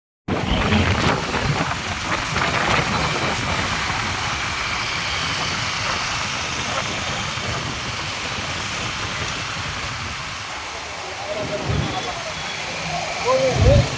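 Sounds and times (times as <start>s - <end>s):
rushing water: 0.3s - 13.9s.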